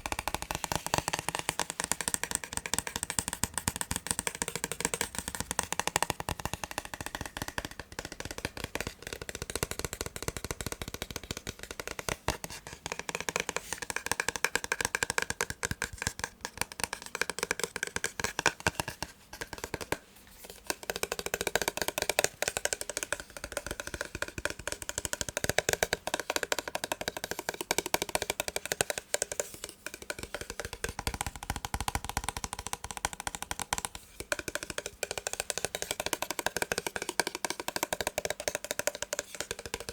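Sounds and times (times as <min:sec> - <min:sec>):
fast tapping on massage gun: 0:00.0 - 0:39.9.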